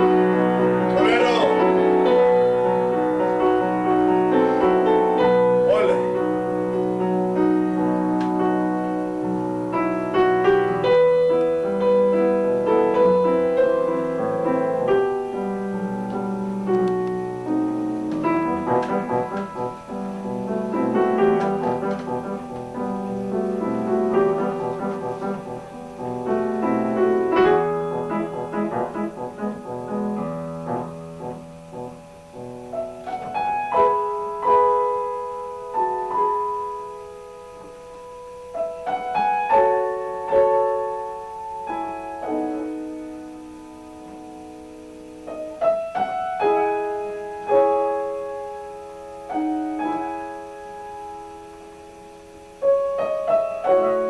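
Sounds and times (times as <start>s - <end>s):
classical piano piece: 0.0s - 54.0s.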